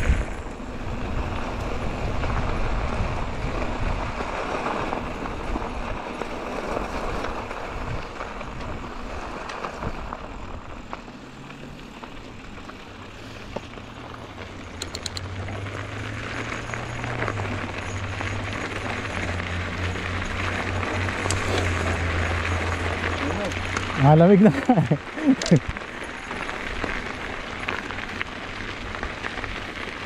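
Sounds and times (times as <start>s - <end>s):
bike tyres crunching on gravel: 0.0s - 30.0s
wind rumbling on microphone: 0.0s - 30.0s.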